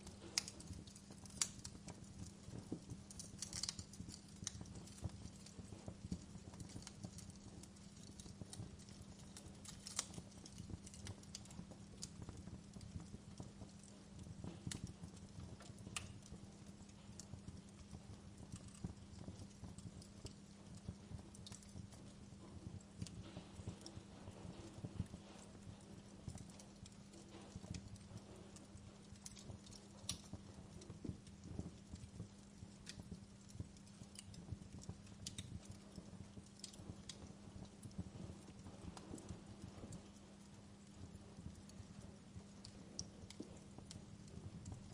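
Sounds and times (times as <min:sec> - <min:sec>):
low steady hum: 0:00.0 - 0:44.9
wood fire crackling and popping: 0:00.0 - 0:44.9.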